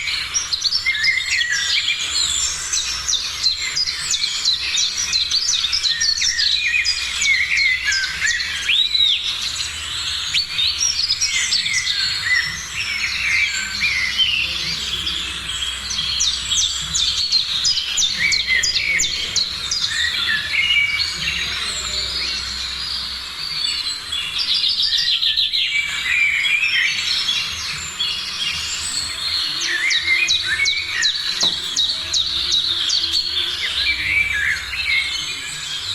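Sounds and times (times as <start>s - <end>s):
birds chirping and trilling: 0.0s - 35.9s.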